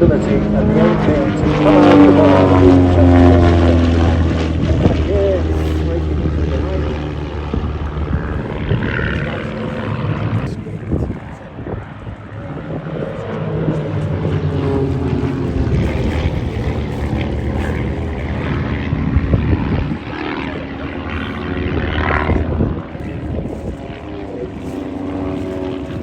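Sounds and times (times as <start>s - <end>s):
propeller aircraft flying past: 0.0s - 26.0s.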